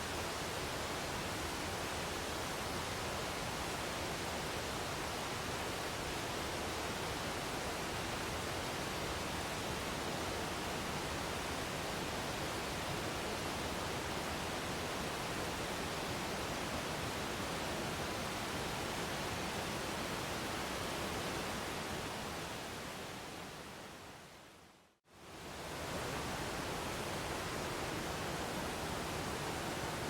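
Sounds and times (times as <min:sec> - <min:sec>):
waterfall: 0:00.0 - 0:30.0.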